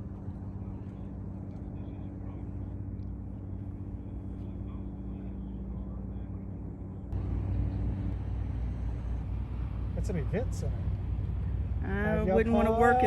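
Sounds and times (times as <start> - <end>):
faint hum: 0.0 - 13.0
low outdoor rumble: 0.0 - 13.0.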